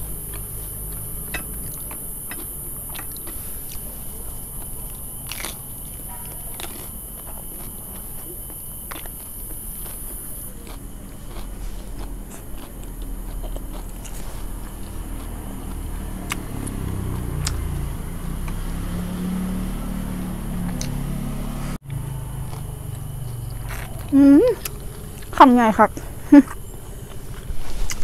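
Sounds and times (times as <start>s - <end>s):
chewing crispy food: 0.0s - 19.7s, 21.8s - 28.0s.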